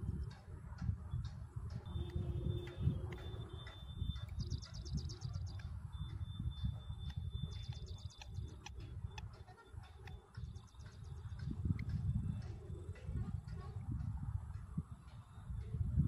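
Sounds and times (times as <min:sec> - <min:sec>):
steady low rumble: 0:00.0 - 0:16.0
faint high whine: 0:01.8 - 0:15.6.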